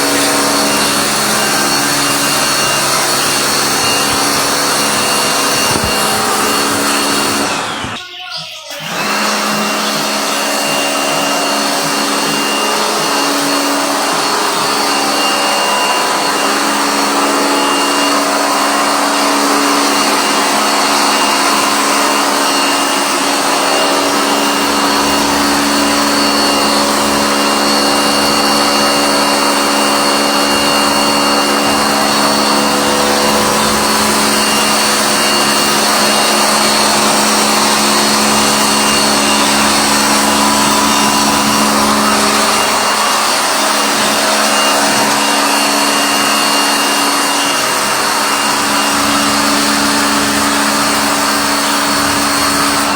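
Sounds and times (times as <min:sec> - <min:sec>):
electric motor whirring: 0:00.0 - 0:08.0, 0:08.8 - 0:52.9.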